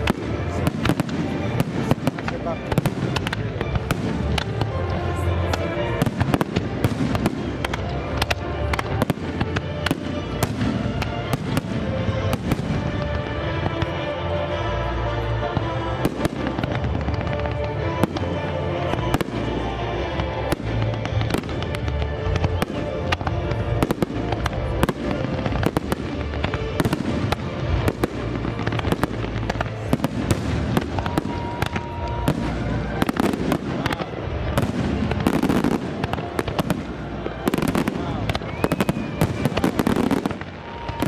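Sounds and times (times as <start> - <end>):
fireworks bangs and crackles: 0.0 - 41.0
music playing: 0.0 - 41.0.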